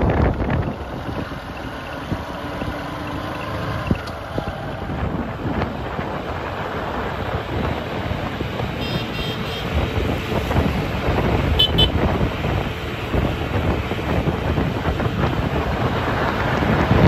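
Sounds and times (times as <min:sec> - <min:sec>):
wind on microphone: 0:00.0 - 0:02.8, 0:03.8 - 0:17.0
diesel engine running: 0:00.0 - 0:17.0
tyre and road noise: 0:00.0 - 0:17.0.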